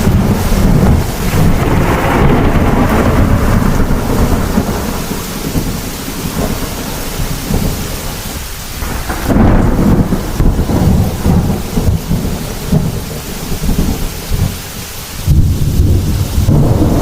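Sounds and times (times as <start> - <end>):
rolling thunder: 0.0 - 17.0
steady rain: 0.0 - 17.0.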